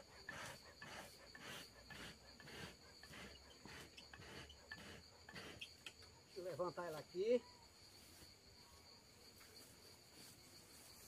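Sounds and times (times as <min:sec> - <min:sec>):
high insect chirring: 0:00.0 - 0:11.0.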